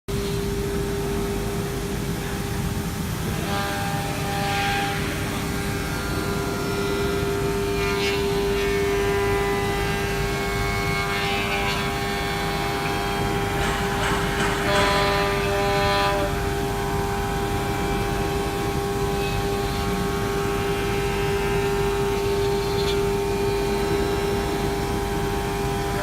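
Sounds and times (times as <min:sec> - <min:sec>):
cnc router spindle whining: 0:00.1 - 0:26.0
cutter milling metal: 0:00.1 - 0:26.0.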